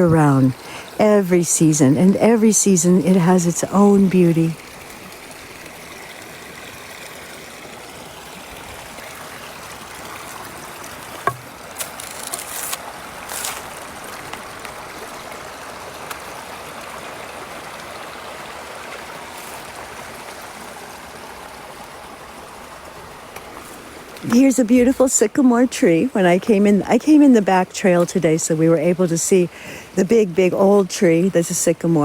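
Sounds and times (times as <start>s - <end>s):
brook running: 0.0s - 32.0s.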